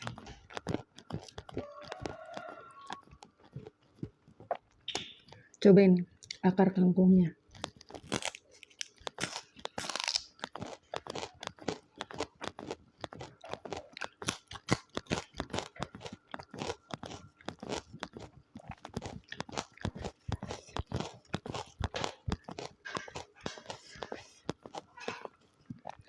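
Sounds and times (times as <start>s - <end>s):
chewing crunchy vegetables: 0.0s - 6.6s, 7.3s - 26.0s.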